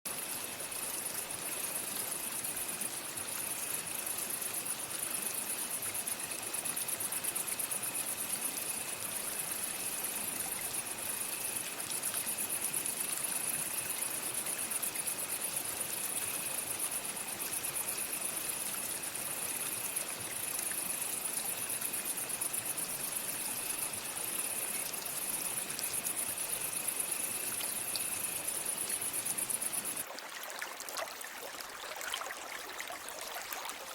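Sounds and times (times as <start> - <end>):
fainter lower insect tone: 0.1 - 30.0
insects trilling: 0.1 - 30.0
stream running water: 0.1 - 33.9.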